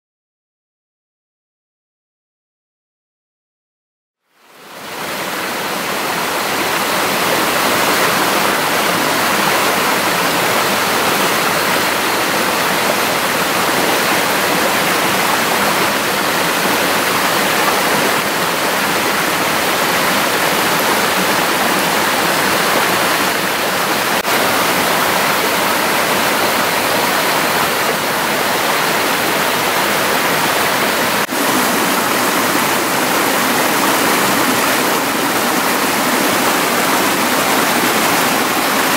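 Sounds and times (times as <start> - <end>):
water rushing over rocks: 4.4 - 38.9.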